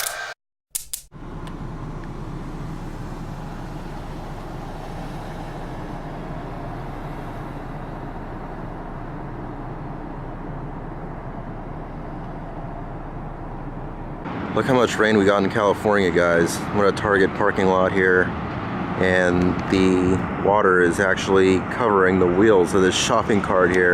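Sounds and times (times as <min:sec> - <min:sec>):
car engine running: 0:01.2 - 0:23.9.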